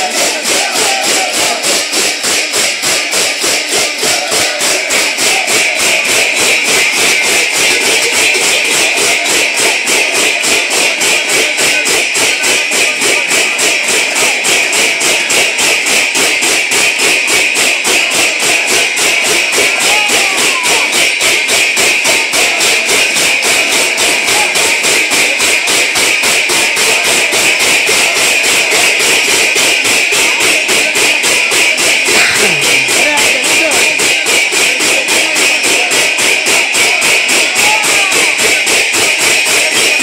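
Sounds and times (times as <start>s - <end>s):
hand cymbals clashing: 0.0s - 40.0s.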